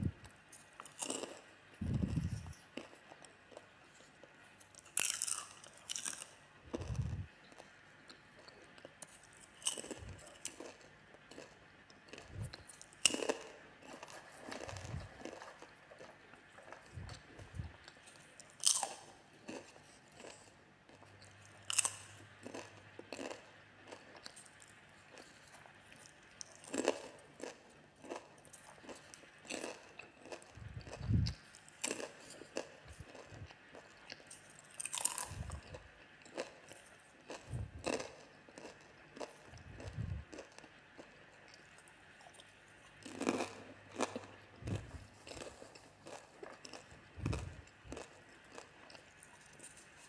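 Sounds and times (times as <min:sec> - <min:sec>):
popcorn crunching: 0:00.1 - 0:50.0.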